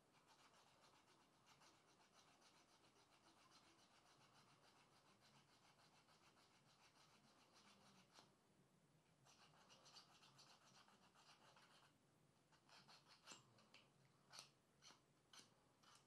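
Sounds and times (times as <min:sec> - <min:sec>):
faint rapid rhythmic scratching: 0:00.0 - 0:08.3, 0:09.2 - 0:16.0.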